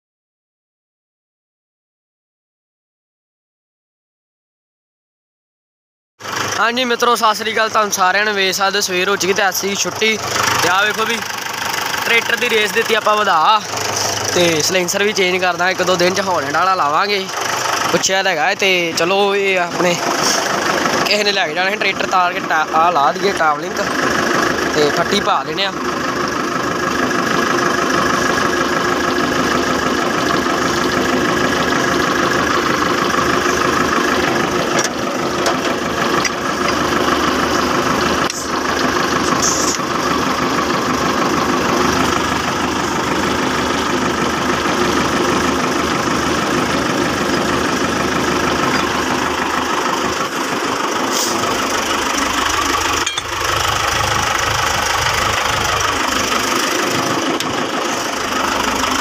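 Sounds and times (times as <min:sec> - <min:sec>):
tractor diesel engine idling: 0:06.2 - 0:59.0.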